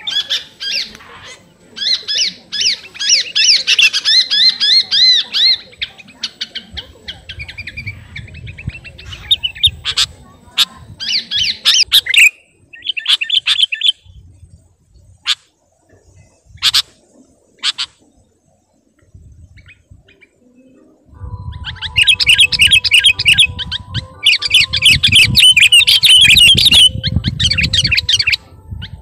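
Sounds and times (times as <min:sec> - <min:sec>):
bird calling: 0:00.0 - 0:14.0, 0:15.2 - 0:19.0, 0:19.6 - 0:28.4
bird chatter: 0:00.0 - 0:21.0, 0:21.6 - 0:29.0.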